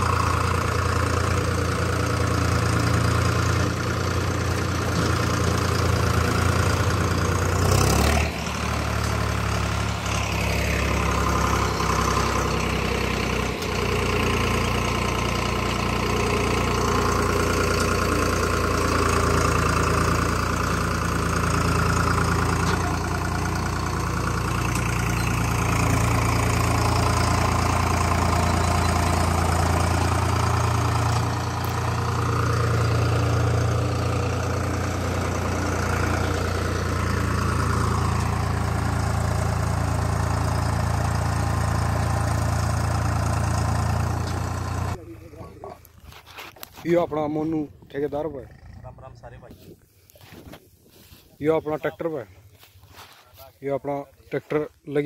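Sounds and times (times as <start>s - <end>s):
diesel tractor engine running: 0.0s - 53.1s.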